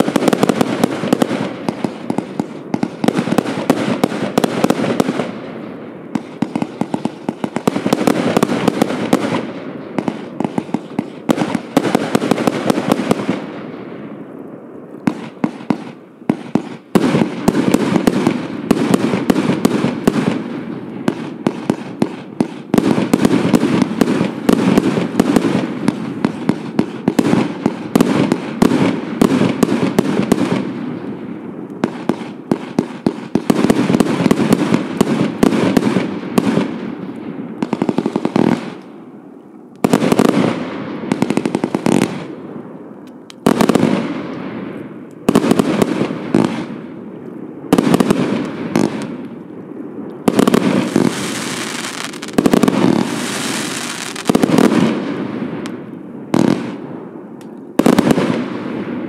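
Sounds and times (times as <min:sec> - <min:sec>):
firework shots firing: 0:00.0 - 0:13.8, 0:15.0 - 0:31.0, 0:31.8 - 0:39.0, 0:39.8 - 0:42.7, 0:43.3 - 0:47.0, 0:47.6 - 0:59.0
crackling firework stars: 0:00.0 - 0:59.0.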